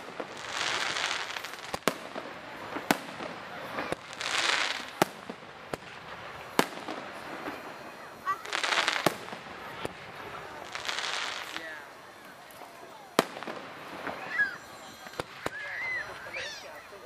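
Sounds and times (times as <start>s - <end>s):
crackling firework stars: 0.0s - 17.0s
fireworks bangs: 0.0s - 17.0s.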